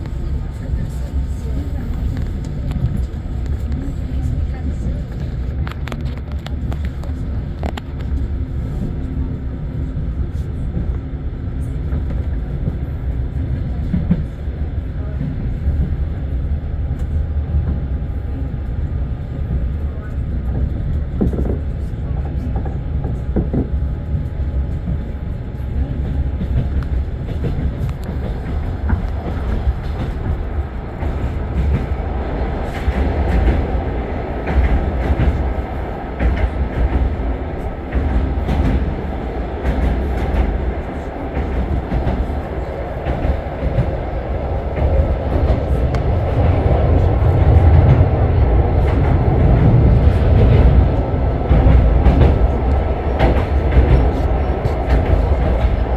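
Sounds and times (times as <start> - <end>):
train rumble inside carriage: 0.0 - 55.9.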